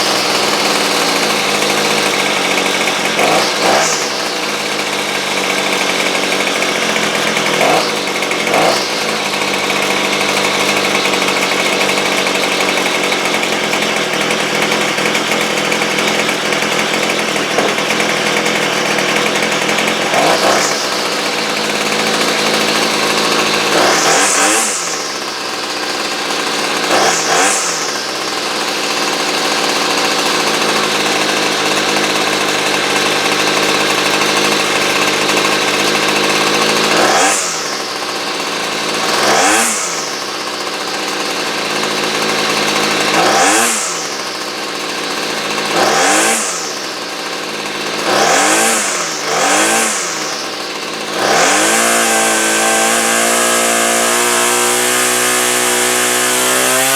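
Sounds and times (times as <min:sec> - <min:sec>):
chainsaw engine revving: 0:00.0 - 0:56.9.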